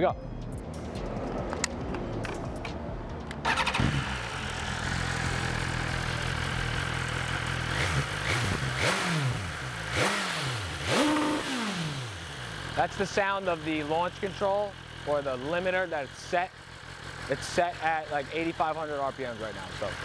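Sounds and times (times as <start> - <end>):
motorcycle engine idling: 1.1 - 20.0.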